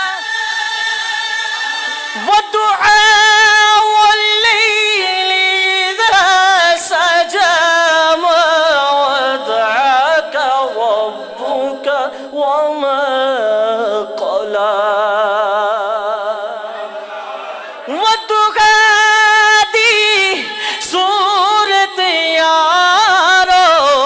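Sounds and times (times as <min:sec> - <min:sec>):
man singing unaccompanied: 0:00.0 - 0:16.7, 0:17.9 - 0:24.0.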